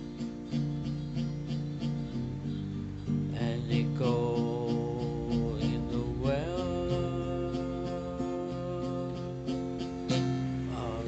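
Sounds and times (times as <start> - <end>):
guitar playing with sliding notes: 0.0 - 11.0.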